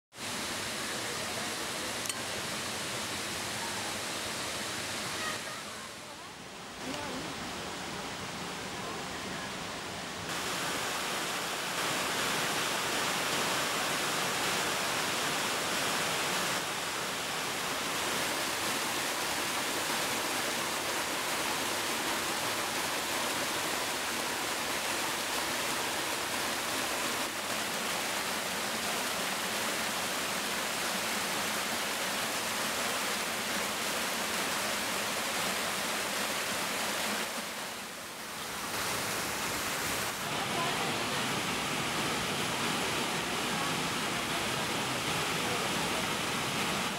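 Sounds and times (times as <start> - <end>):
waterfall and stream rushing: 0.1 - 46.9.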